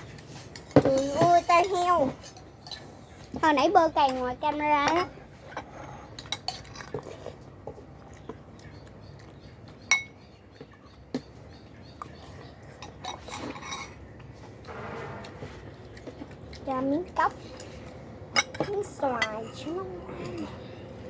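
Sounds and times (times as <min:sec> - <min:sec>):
utensils clinking against dishes: 0:00.0 - 0:03.4, 0:04.0 - 0:07.4, 0:09.4 - 0:11.3, 0:12.7 - 0:20.8.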